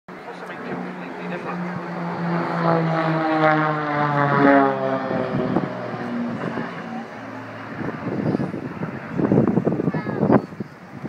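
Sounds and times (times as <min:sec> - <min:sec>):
propeller aircraft engines droning: 0:00.1 - 0:11.0.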